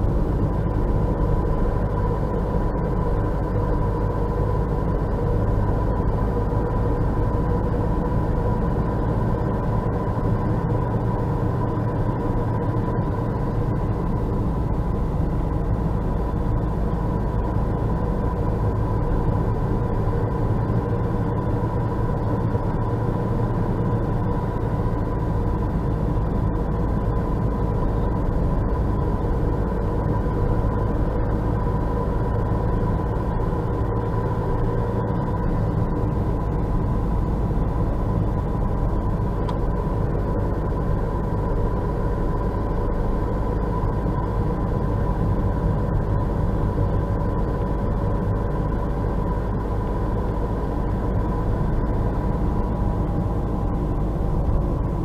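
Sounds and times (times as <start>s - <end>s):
car road and tyre noise: 0.0s - 55.0s.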